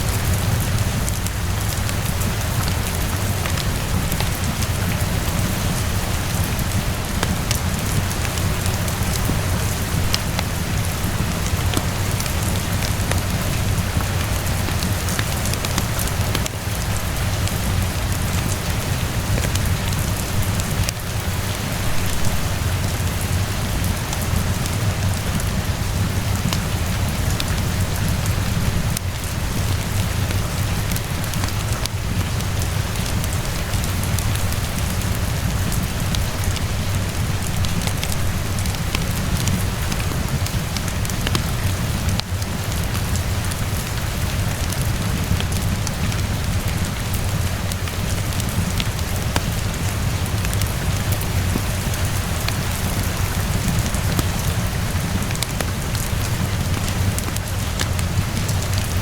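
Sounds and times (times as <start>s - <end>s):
rain pattering: 0.0s - 59.0s
wood fire crackling: 0.0s - 59.0s.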